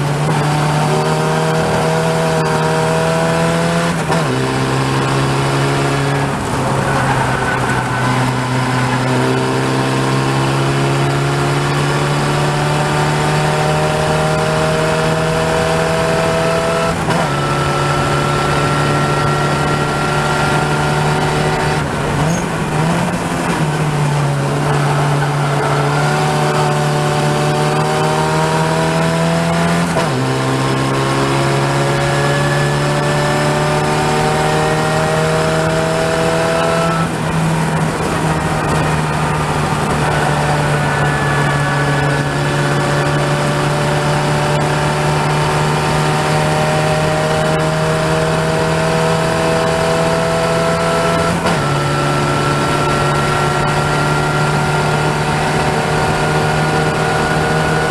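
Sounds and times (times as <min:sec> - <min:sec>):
race car engine at speed: 0:00.0 - 0:57.9.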